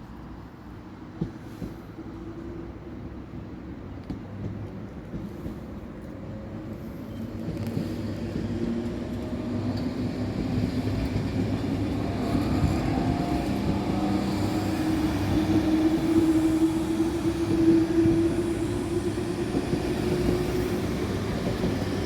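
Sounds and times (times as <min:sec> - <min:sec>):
train drone and rumble: 0:00.0 - 0:22.0.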